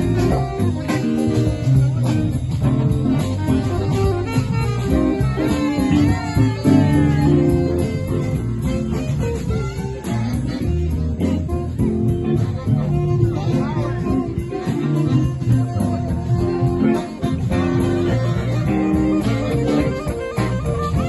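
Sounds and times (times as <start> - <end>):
bass guitar: 0.0 - 21.0
drums: 0.0 - 21.0
lead guitar bending notes: 0.0 - 21.0.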